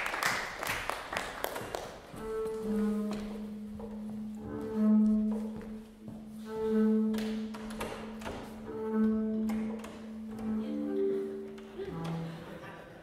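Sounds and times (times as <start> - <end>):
bowed double bass: 2.2 - 12.8.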